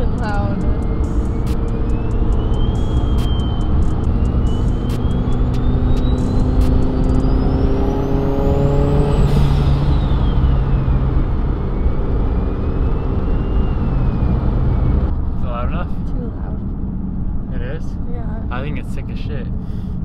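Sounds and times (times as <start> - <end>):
turbo whine: 0.0 - 18.7
car engine accelerating: 0.0 - 19.6.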